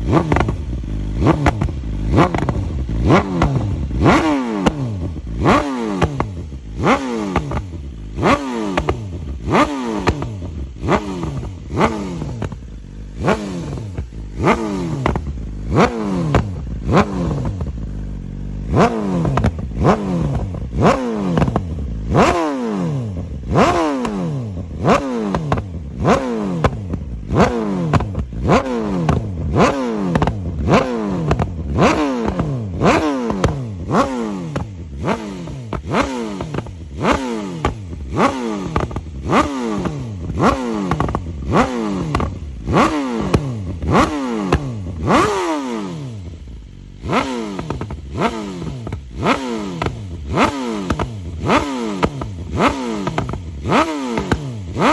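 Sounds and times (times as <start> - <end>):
exhaust popping and crackling: 0.0 - 22.4, 23.2 - 45.3, 46.3 - 54.9
motorcycle engine revving: 0.0 - 54.9.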